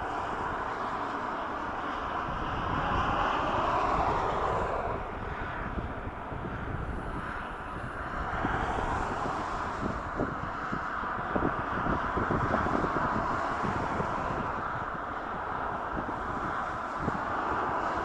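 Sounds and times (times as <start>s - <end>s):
jet engines rushing: 0.0s - 18.0s
wind buffeting microphone: 0.0s - 18.0s.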